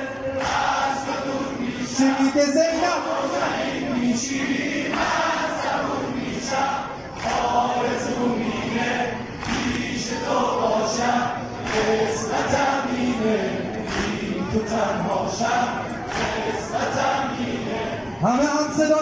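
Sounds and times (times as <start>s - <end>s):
men singing a lament in unison: 0.0s - 18.8s.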